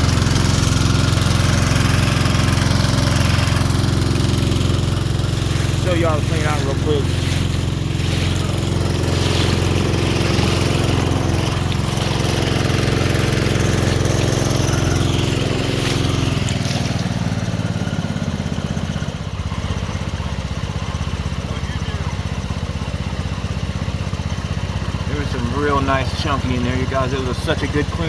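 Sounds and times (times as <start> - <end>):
small gasoline engine running: 0.0 - 28.0.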